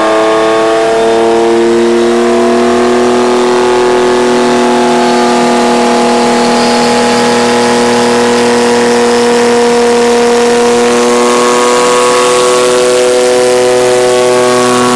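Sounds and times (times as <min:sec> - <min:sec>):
car engine running under load: 0:00.0 - 0:14.9.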